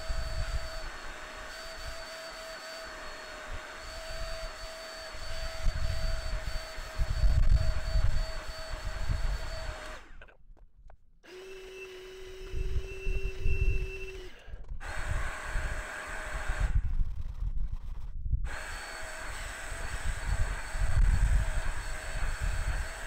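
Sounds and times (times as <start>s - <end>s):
carpet cleaner motor whine: 0.0s - 10.3s, 11.3s - 16.8s, 18.5s - 23.0s.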